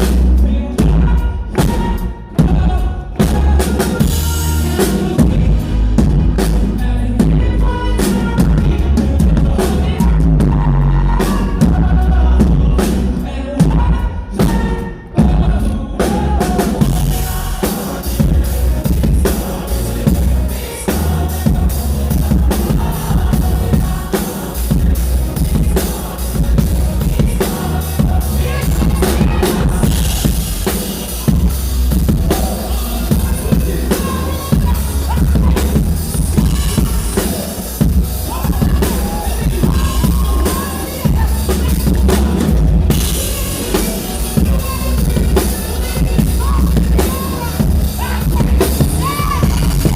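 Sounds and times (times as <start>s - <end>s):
drum kit kick and snare: 0.0s - 49.9s
live pop-rock band: 0.0s - 49.9s.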